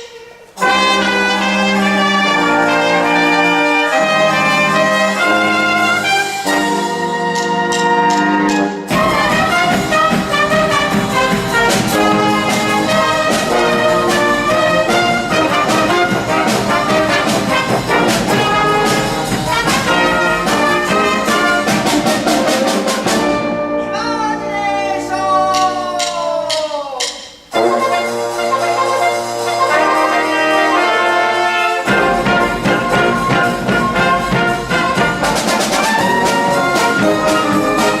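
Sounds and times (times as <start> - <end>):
brass band playing: 0.0 - 38.0
percussion: 0.0 - 38.0.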